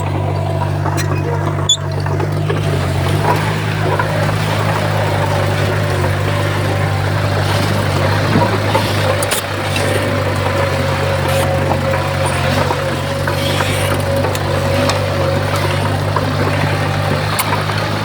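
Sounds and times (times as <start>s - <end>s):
bulldozer diesel engine droning: 0.0s - 18.0s
steady whine: 0.0s - 18.0s.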